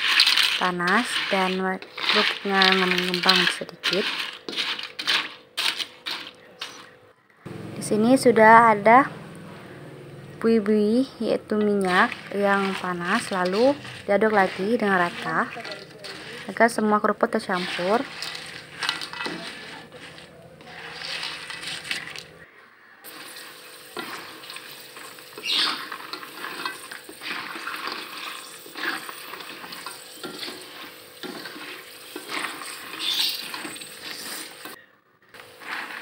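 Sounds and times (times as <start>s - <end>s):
oil sizzling: 0.0s - 6.9s, 10.3s - 22.4s, 23.1s - 34.8s, 35.4s - 36.0s
spatula scraping in wok: 0.0s - 7.0s, 10.4s - 22.4s, 23.1s - 34.8s, 35.4s - 36.0s.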